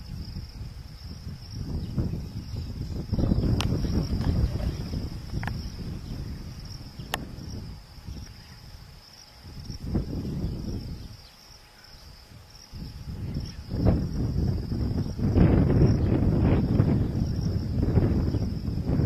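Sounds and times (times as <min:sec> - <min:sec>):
high insect chorus buzzing: 0:00.0 - 0:19.0.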